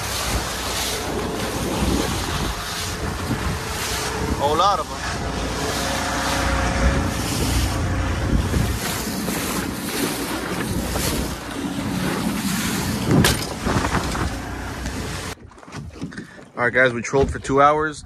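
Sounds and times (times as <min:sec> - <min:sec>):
wind buffeting microphone: 0:00.0 - 0:16.0
water rushing along hull: 0:00.0 - 0:18.0.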